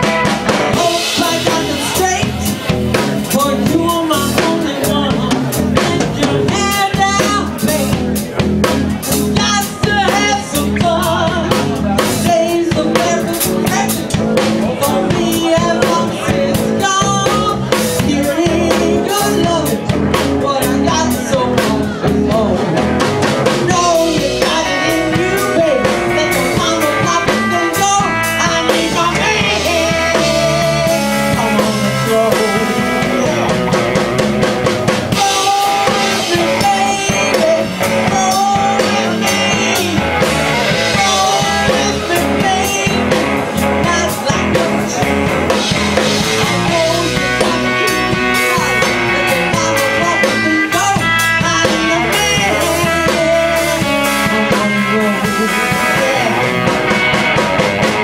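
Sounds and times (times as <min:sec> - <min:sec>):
woman singing lead: 0:00.0 - 0:08.4, 0:09.1 - 0:58.0
drum kit beat: 0:00.0 - 0:58.0
electric bass: 0:00.0 - 0:58.0
electric guitar: 0:00.0 - 0:58.0.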